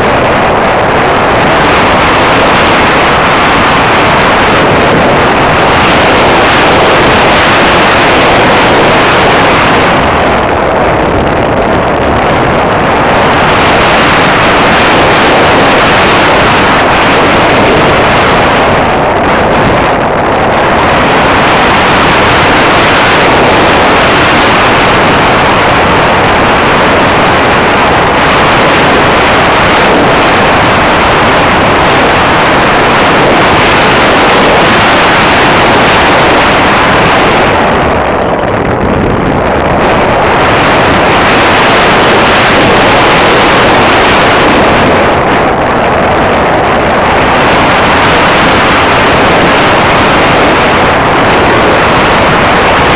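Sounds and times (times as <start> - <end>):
airflow and propeller noise: 0.0 - 52.9.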